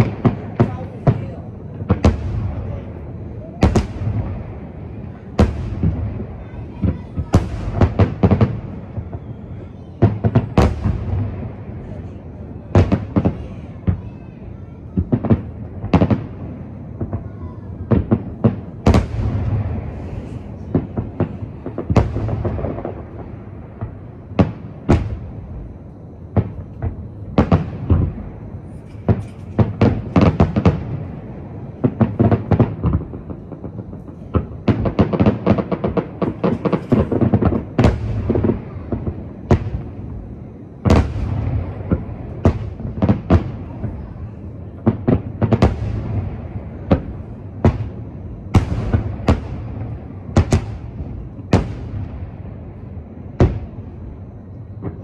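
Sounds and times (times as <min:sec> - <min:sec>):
firework bangs: 0:00.0 - 0:55.0.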